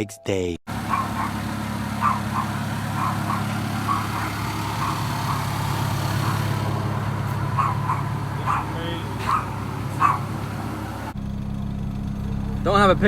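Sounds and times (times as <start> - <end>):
car engine droning: 0.7 - 13.0.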